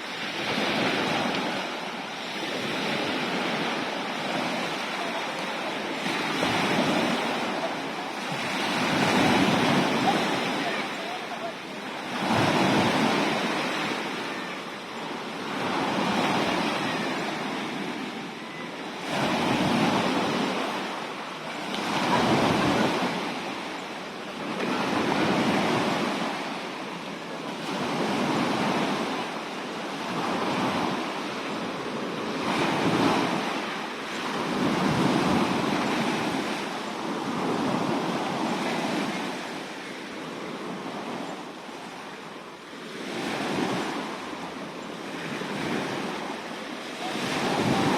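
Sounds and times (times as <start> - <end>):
sea waves washing in: 0.0 - 47.9.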